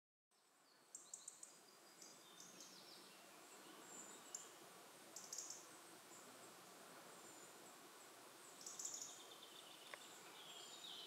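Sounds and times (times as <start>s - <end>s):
small birds chirping: 0.4s - 11.0s
soft background hiss: 0.4s - 11.0s.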